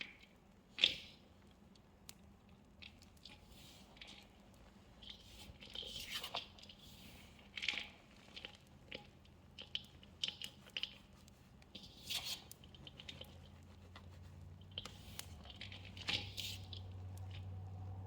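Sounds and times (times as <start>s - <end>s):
hands squishing wet chalk: 0.0s - 18.0s.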